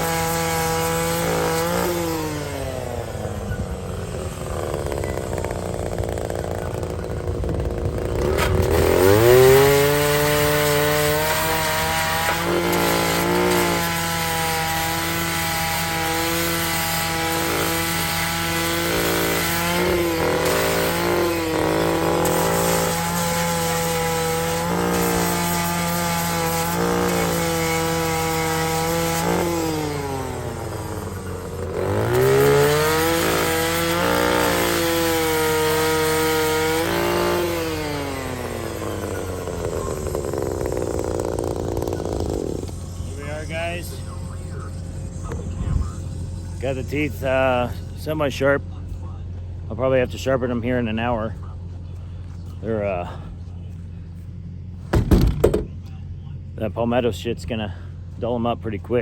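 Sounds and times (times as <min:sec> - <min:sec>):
power grinder whining: 0:00.0 - 0:48.6.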